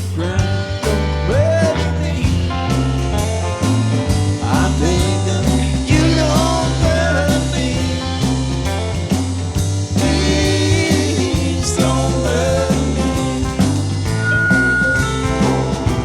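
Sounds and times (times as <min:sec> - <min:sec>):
country-rock band playing: 0:00.0 - 0:16.0.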